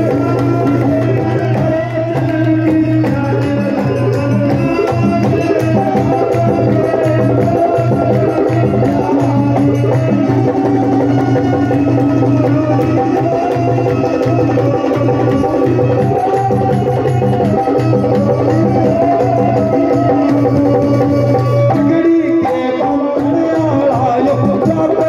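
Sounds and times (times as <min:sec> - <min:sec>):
hand drum rhythm: 0:00.0 - 0:25.0.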